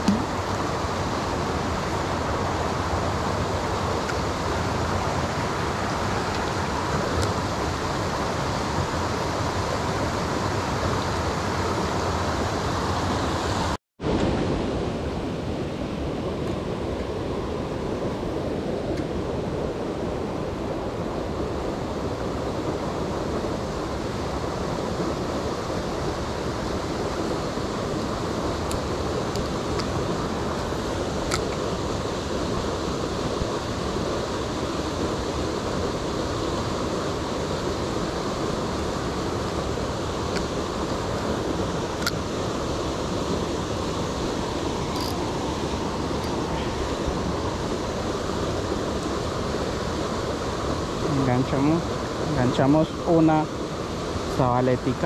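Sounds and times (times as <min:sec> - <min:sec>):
creek water rushing over rocks: 0:00.0 - 0:14.5, 0:22.2 - 0:55.0.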